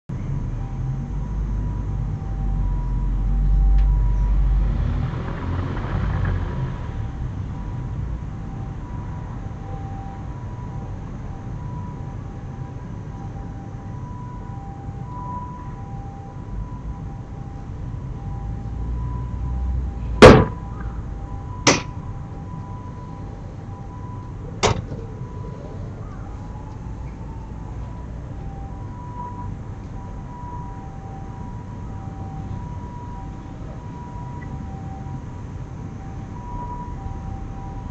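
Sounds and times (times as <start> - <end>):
low outdoor rumble: 0.1 - 37.9.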